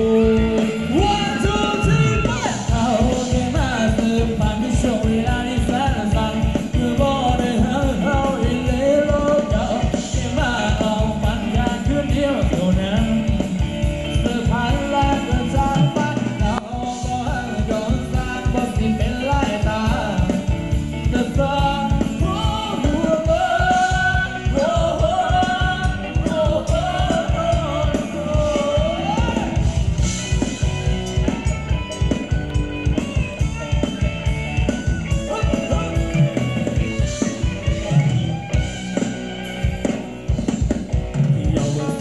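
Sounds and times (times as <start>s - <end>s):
drum kit beat: 0.0s - 42.0s
guitar: 0.0s - 42.0s
live band dance music: 0.0s - 42.0s.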